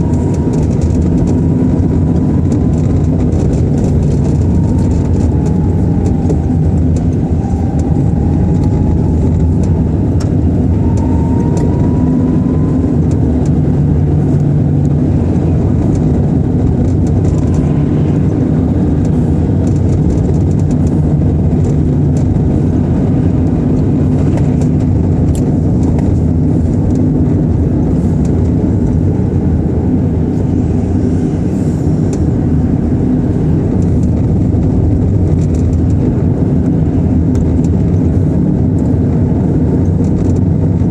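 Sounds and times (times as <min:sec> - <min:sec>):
faint rising whine: 0:00.0 - 0:36.0
car engine and road rumble: 0:00.0 - 0:40.9.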